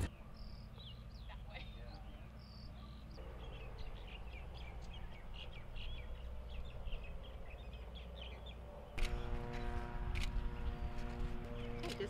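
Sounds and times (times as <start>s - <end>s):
birds chirping: 0.0s - 12.0s
low steady rumble: 0.0s - 12.0s.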